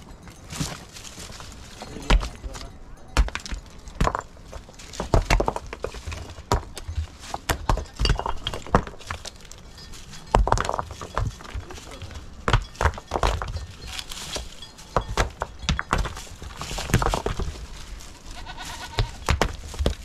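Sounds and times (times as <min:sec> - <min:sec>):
stones knocking together: 0:02.0 - 0:20.0.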